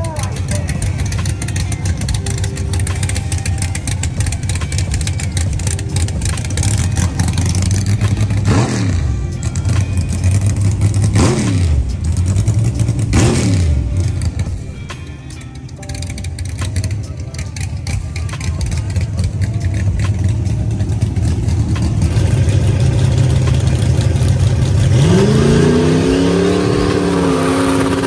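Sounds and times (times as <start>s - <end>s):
car engine idling roughly: 0.0s - 25.2s
engine revving: 0.0s - 28.0s.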